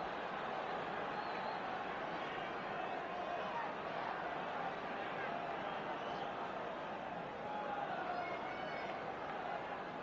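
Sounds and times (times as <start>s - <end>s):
stadium crowd din: 0.0s - 10.0s.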